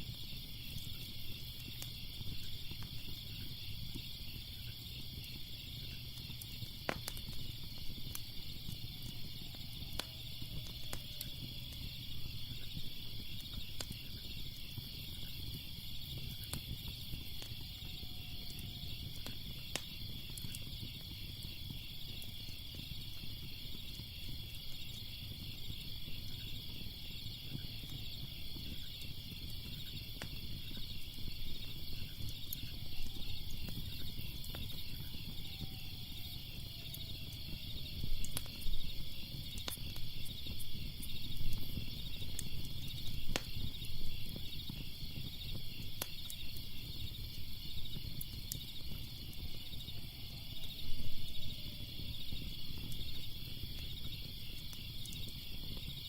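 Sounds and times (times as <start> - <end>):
crickets chirping: 0.0 - 56.0
wood fire crackling: 0.0 - 56.0.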